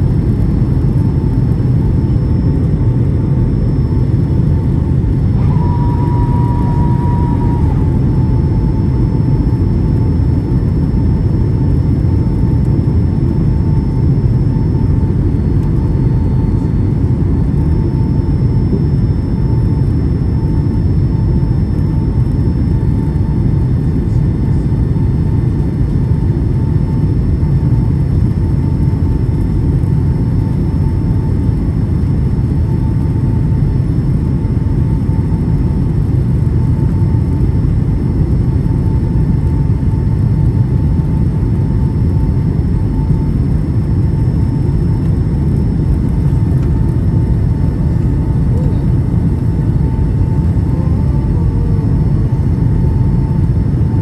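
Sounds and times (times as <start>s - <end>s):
airplane cabin roar: 0.0s - 54.0s
faint high whine: 0.0s - 54.0s.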